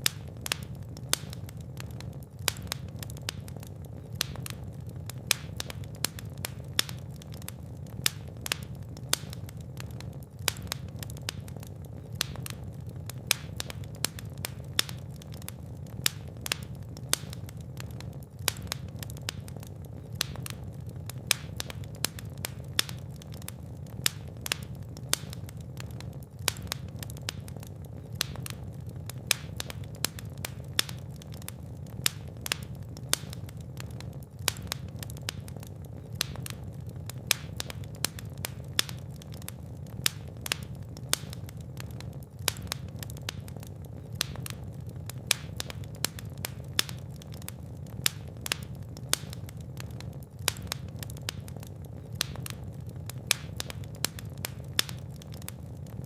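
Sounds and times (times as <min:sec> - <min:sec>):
fire crackling: 0:00.0 - 0:56.0
low rumble of flames: 0:00.0 - 0:56.0.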